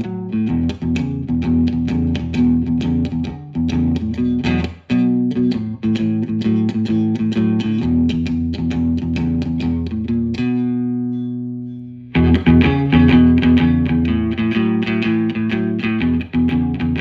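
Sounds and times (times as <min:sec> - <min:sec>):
electric guitar blues riff: 0:00.0 - 0:17.0.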